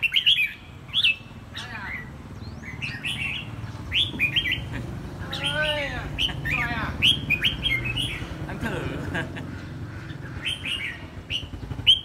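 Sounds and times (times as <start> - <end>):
bird singing: 0.0 - 12.0.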